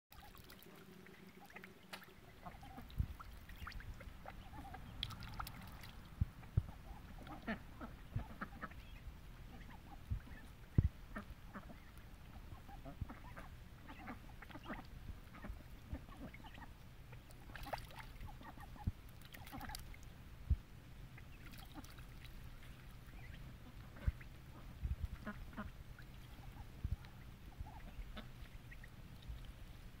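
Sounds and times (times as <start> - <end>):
duck splashing water: 0.1 - 8.8, 9.5 - 20.1, 21.2 - 29.7.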